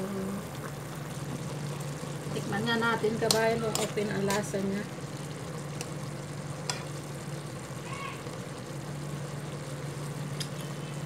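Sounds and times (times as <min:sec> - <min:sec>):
sauce simmering in wok: 0:00.0 - 0:11.0.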